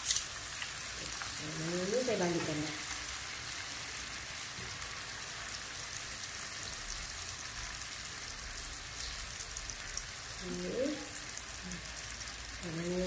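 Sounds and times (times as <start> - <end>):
deep-frying in hot oil: 0.0 - 13.0.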